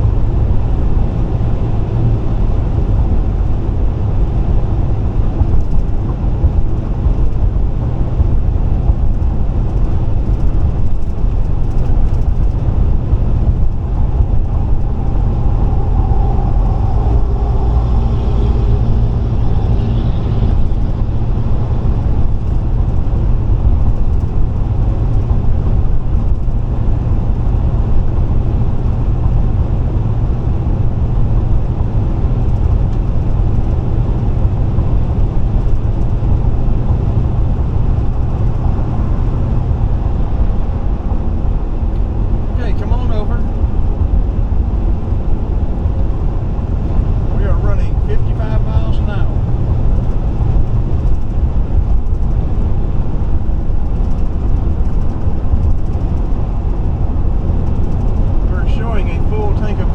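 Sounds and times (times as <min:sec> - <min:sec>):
car engine running: 0:00.0 - 0:59.9
tyres rumbling on road: 0:00.0 - 0:59.9.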